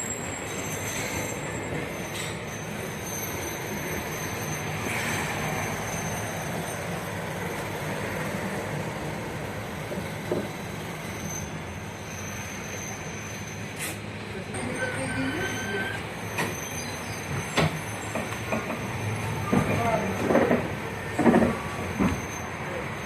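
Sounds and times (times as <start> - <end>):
tram wheels rumbling: 0.0 - 23.0.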